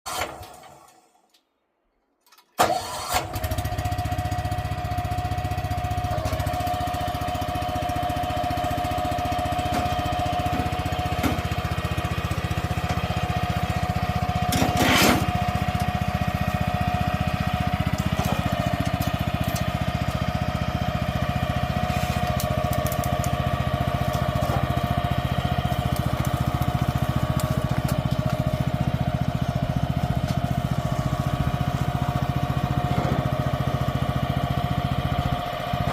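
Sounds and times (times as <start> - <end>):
small engine running: 3.0 - 35.9.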